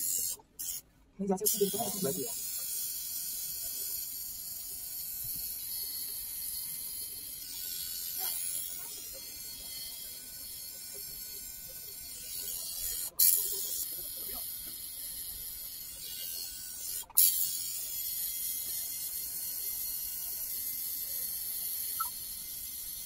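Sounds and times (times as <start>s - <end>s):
electric tattoo machine buzzing: 0.0s - 0.8s, 1.4s - 23.0s.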